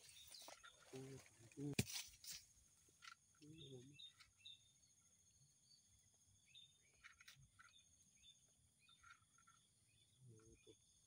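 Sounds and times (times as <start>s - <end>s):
bird chirps: 0.0s - 1.7s, 3.0s - 11.0s.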